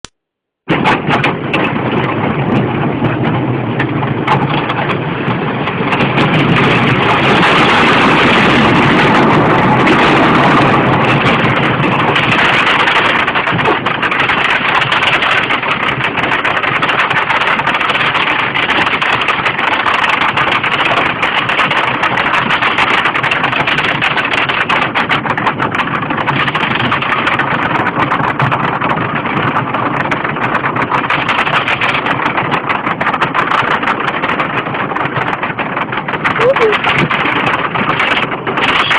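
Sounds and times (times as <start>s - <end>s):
roller coaster rattling on track: 0.7s - 38.9s.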